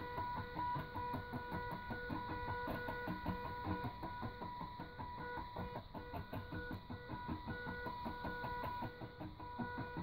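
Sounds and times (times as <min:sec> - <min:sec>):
stepper motor buzzing whine: 0:00.0 - 0:10.0.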